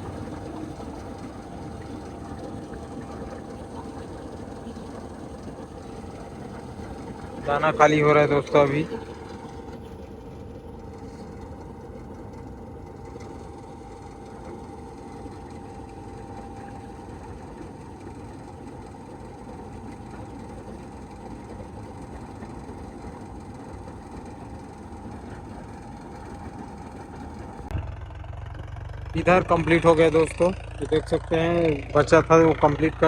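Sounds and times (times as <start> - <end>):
combine harvester drone: 0.0 - 33.0.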